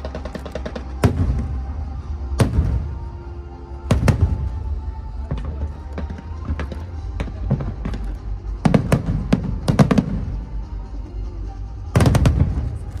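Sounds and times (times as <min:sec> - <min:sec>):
fireworks bursting: 0:00.0 - 0:10.6, 0:12.0 - 0:13.0
low rumble: 0:00.7 - 0:13.0.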